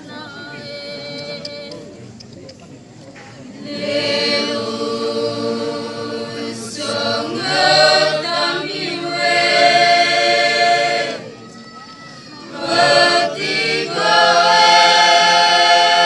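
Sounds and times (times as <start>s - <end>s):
choir singing sustained notes: 0.0s - 2.0s, 3.5s - 11.4s, 12.4s - 16.0s.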